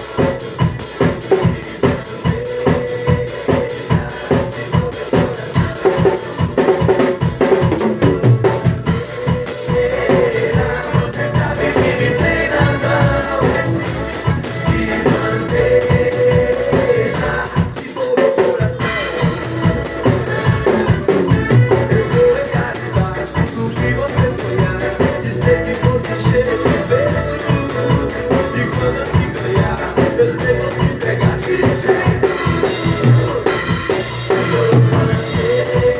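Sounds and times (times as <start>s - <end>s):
drum kit beat: 0.0s - 35.9s
recorded song: 0.0s - 35.9s.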